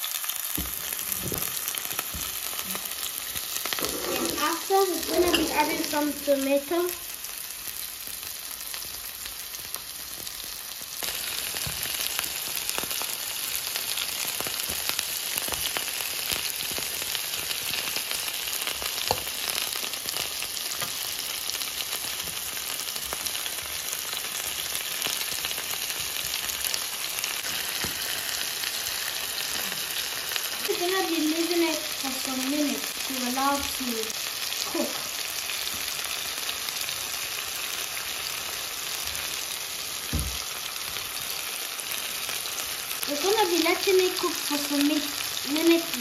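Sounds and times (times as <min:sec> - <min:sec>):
onions frying in oil: 0:00.0 - 0:46.0.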